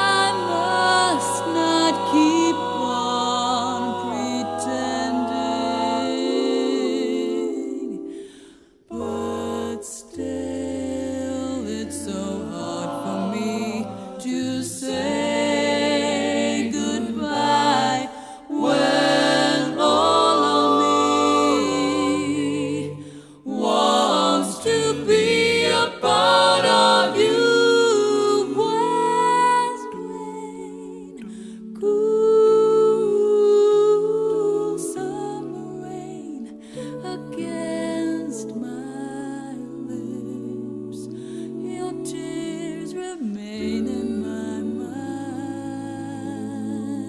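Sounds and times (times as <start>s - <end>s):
voices singing in harmony: 0.0s - 47.0s.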